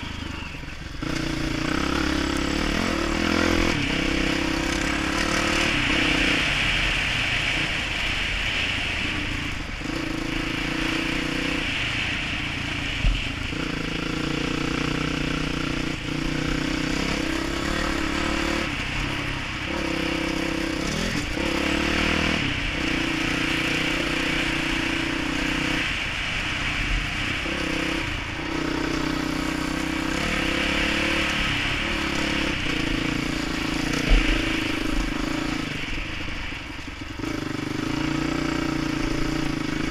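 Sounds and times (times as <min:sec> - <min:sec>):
dirt bike engine revving: 0:00.0 - 0:07.8, 0:08.5 - 0:36.2, 0:37.1 - 0:39.9.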